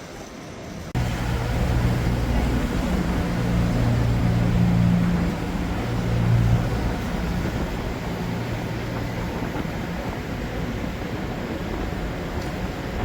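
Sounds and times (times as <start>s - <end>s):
low engine hum: 1.0s - 13.0s
steady rushing noise: 1.0s - 13.0s.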